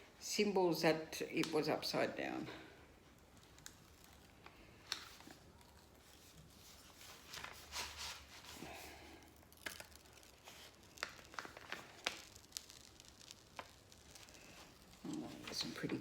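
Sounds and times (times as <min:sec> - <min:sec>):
plastic cover crinkling: 0:01.3 - 0:16.0.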